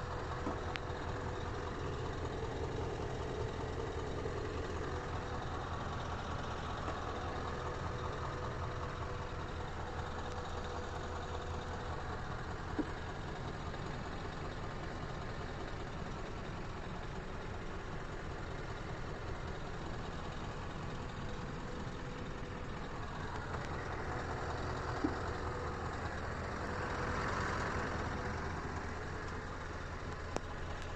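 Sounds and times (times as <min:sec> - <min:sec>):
diesel truck engine idling: 0:00.0 - 0:30.9.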